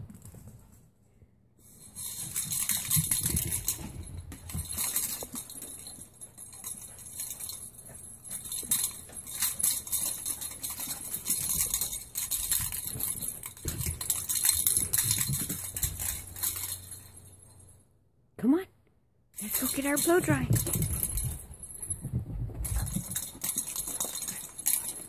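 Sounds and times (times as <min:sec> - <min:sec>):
dog paws scrambling: 0:01.6 - 0:17.8, 0:19.4 - 0:25.0
rustling: 0:01.6 - 0:17.8, 0:19.4 - 0:25.0.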